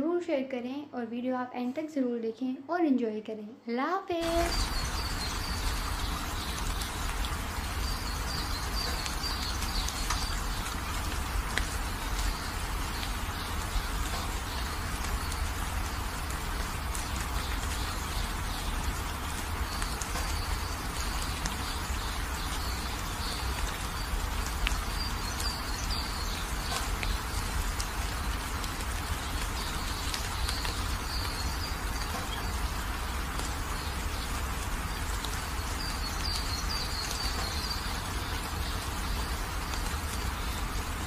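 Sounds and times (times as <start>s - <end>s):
steady rain falling: 4.2s - 41.0s.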